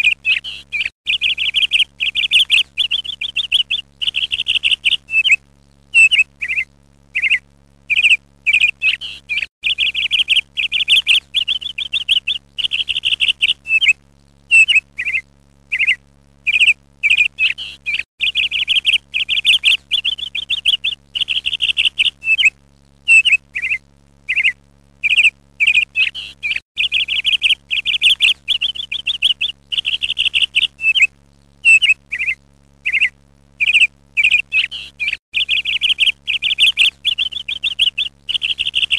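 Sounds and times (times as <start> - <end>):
ducklings peeping: 0.0 - 5.4, 6.0 - 38.9.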